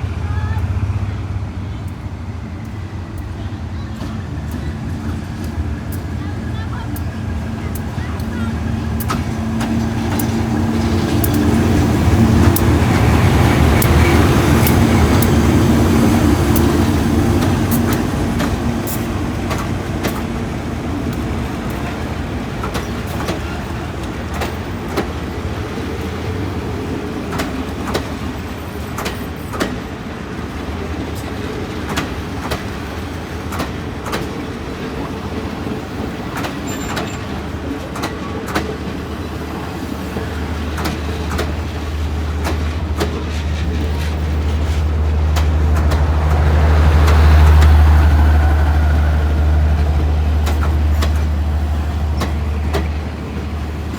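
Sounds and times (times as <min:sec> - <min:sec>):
diesel locomotive engine: 0:00.0 - 0:53.9
train running gear clicking: 0:00.0 - 0:53.9.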